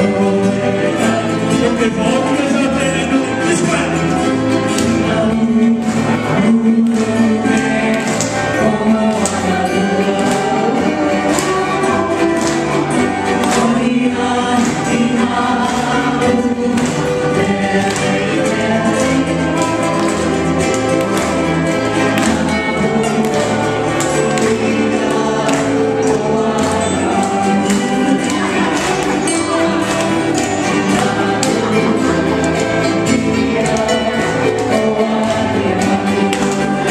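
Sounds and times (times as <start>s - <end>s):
live band music with singing: 0.0s - 36.9s.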